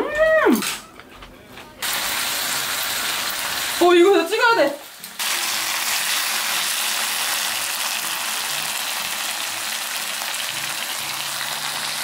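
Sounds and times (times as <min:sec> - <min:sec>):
meat sizzling on a grill: 0:01.8 - 0:12.0.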